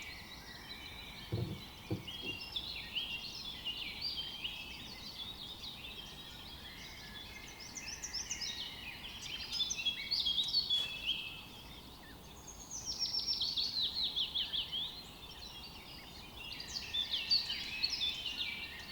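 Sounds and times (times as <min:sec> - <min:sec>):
songbirds singing and chirping: 0:00.0 - 0:18.9.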